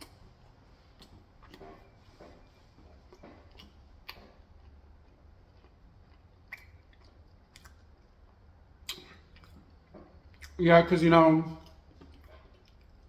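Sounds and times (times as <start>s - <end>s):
person chewing: 0.0s - 10.6s, 11.5s - 13.0s.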